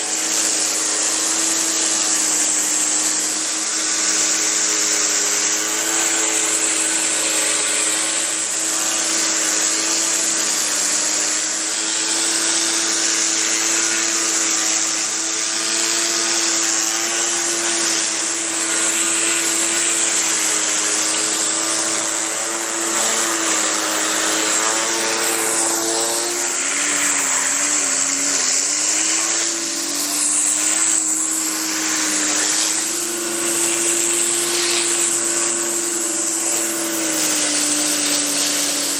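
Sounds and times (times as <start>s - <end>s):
pressure washer engine humming: 0.0s - 38.9s
water spray hissing: 0.0s - 38.9s.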